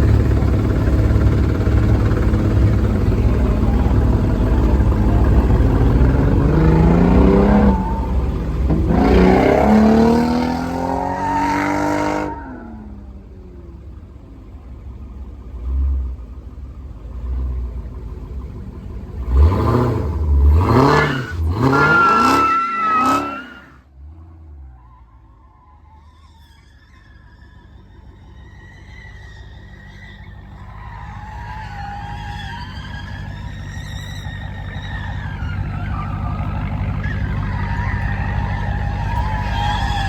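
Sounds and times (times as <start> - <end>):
car engine revving: 0.0 - 24.2, 28.2 - 40.0
car engine accelerating: 0.0 - 40.0.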